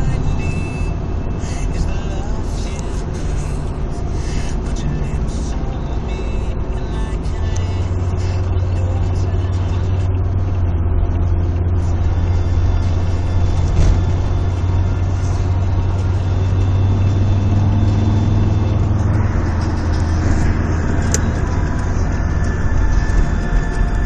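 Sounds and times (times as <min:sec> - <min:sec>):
engine and road noise drone: 0:00.0 - 0:24.0.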